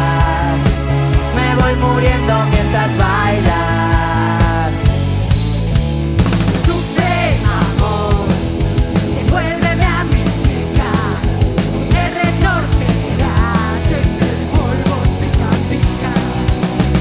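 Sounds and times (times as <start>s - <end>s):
person singing: 0.0s - 5.0s, 6.6s - 17.0s
rock band playing: 0.0s - 17.0s.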